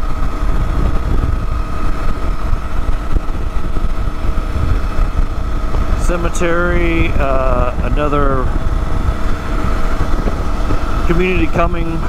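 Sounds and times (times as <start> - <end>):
motorcycle engine and road noise: 0.0 - 12.0
wind rushing on microphone: 0.0 - 12.0.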